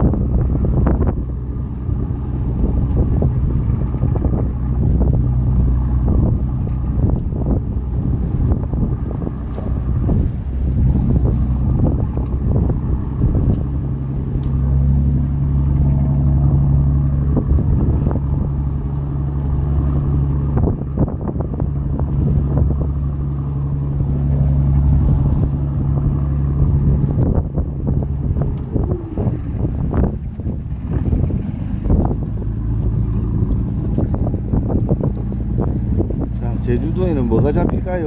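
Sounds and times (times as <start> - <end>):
motor humming: 0.0 - 37.8
wind buffeting microphone: 0.0 - 38.0.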